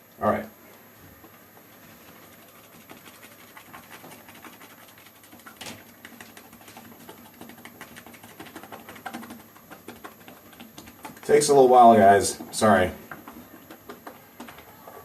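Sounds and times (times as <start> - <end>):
shaving brush scrubbing in mug: 1.2 - 14.4.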